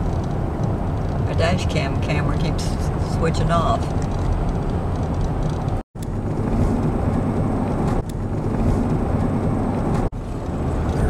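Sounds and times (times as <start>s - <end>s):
car road rumble from inside: 0.0s - 11.0s.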